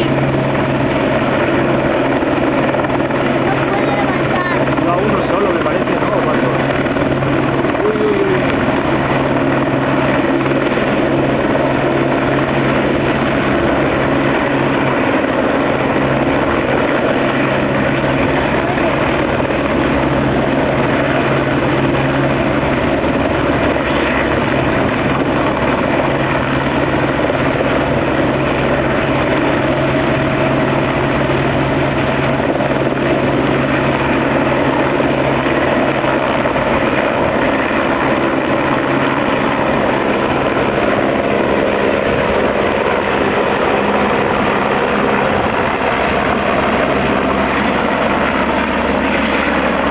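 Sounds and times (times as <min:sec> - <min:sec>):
helicopter hovering: 0:00.0 - 0:49.9.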